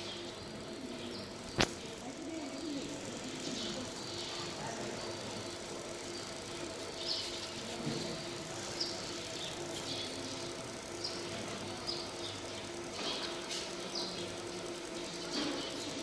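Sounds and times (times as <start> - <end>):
laser marking machine humming: 0.0 - 16.0.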